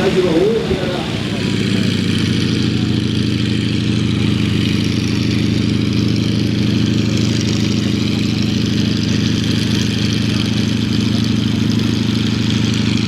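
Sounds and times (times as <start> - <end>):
aircraft radial engine droning: 0.0 - 13.0.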